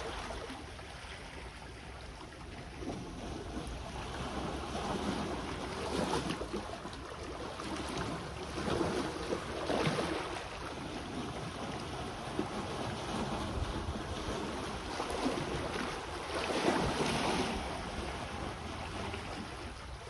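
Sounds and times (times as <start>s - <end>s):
sea waves washing onto shore: 0.0s - 20.0s
wind rumbling on microphone: 0.0s - 20.0s.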